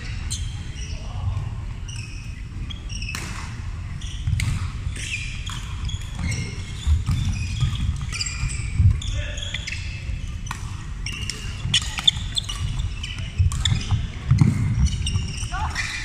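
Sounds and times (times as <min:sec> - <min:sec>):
sneaker squeaks on wooden floor: 0:01.8 - 0:16.0.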